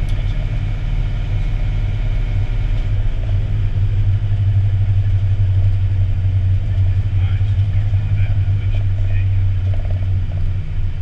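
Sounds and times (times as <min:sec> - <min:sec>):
diesel engine drone in cab: 0:00.0 - 0:11.0
road noise: 0:00.0 - 0:11.0.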